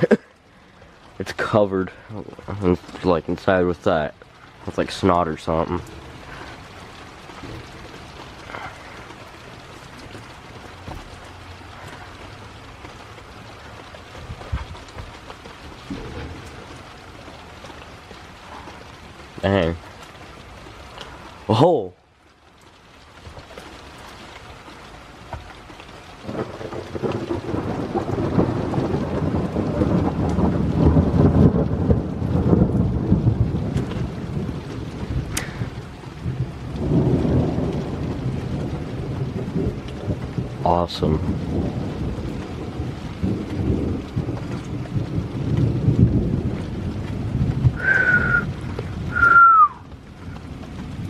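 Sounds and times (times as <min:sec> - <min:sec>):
rain falling: 0:00.0 - 0:51.0
thunder rolling: 0:01.2 - 0:19.8, 0:26.2 - 0:51.0.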